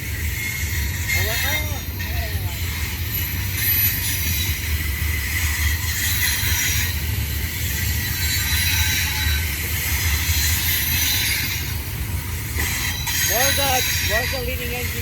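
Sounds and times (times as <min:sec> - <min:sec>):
high wheel squeal: 0:00.0 - 0:15.0
train wheels rumbling on rail: 0:00.0 - 0:15.0.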